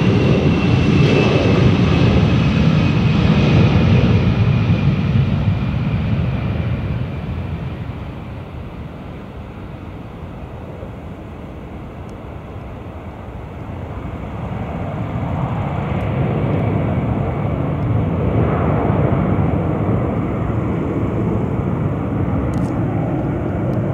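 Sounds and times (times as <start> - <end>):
jet engine noise: 0.0 - 23.9.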